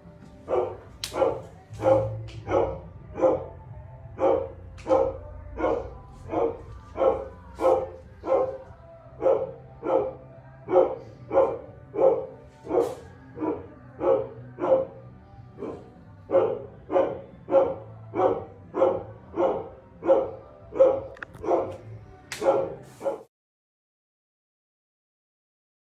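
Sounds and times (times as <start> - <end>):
dog barking: 0.5 - 23.3.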